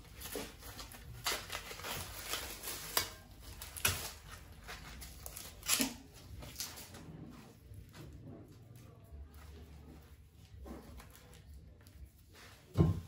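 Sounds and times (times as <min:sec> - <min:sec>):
corn husks rustling and tearing: 0:00.0 - 0:12.8.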